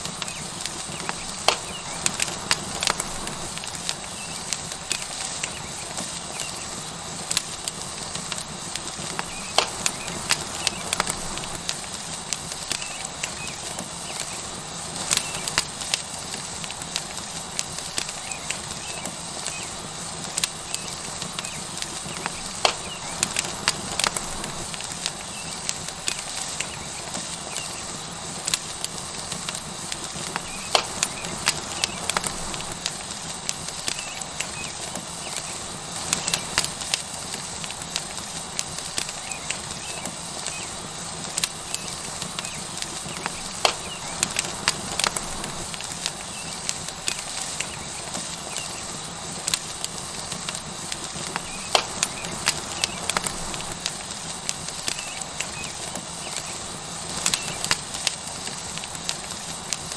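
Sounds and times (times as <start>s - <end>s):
steak sizzling: 0.0s - 59.9s
wood fire crackles and pops: 0.0s - 59.9s.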